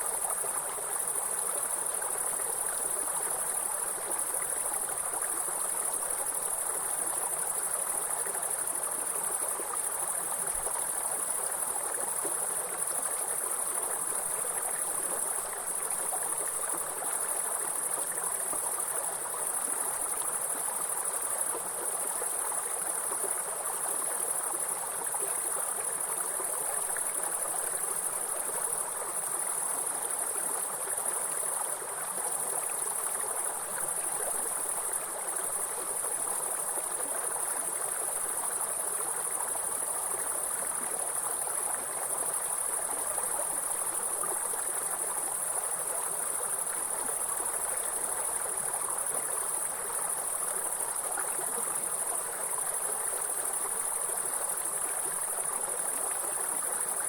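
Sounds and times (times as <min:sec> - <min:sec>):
insects stridulating: 0:00.0 - 0:57.0
stream water running: 0:00.0 - 0:57.0.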